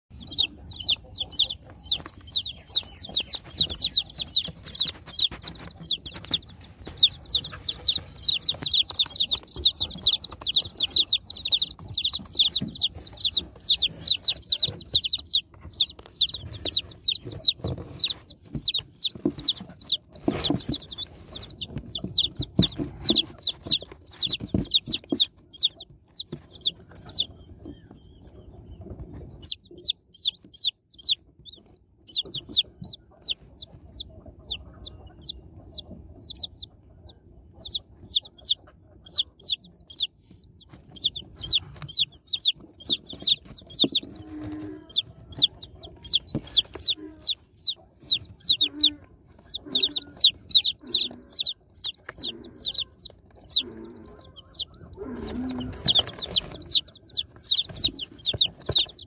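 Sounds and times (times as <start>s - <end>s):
baby chicks peeping: 0.1s - 59.0s.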